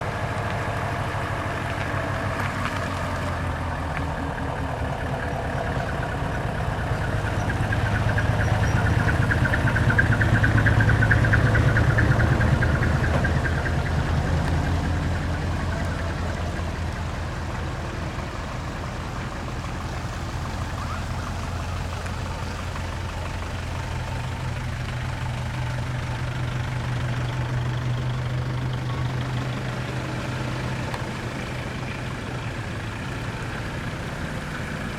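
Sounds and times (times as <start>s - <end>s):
diesel truck engine passing: 0.0s - 34.9s.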